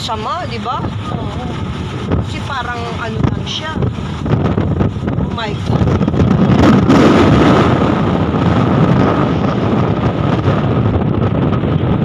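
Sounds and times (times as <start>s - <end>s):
vehicle running and road rumble: 0.0s - 12.0s
wind buffeting microphone: 0.0s - 12.0s.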